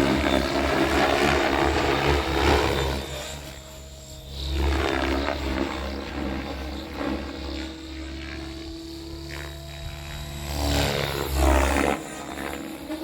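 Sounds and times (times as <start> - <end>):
rc helicopter rotor drone: 0.0 - 13.0.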